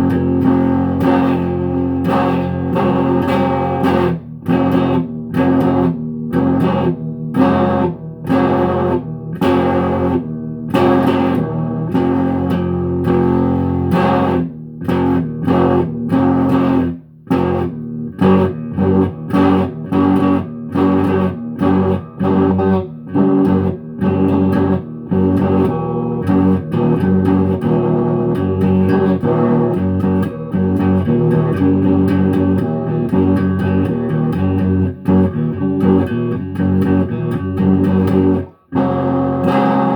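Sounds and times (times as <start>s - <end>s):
guitar plucked notes: 0.0s - 39.9s.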